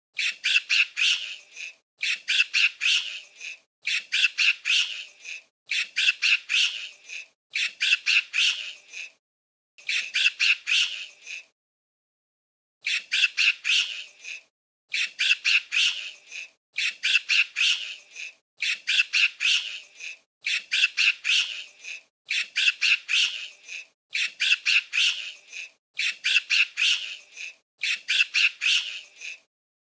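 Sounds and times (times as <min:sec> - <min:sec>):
monkey chattering: 0:00.2 - 0:09.2, 0:09.8 - 0:11.5, 0:12.8 - 0:29.5.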